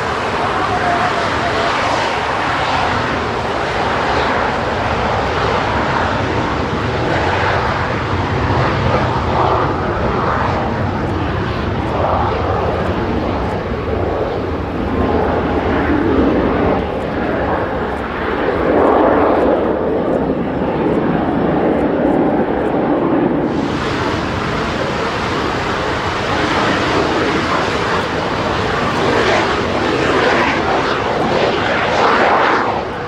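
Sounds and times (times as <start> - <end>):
jet engines running: 0.0 - 33.0
voices: 0.0 - 33.0.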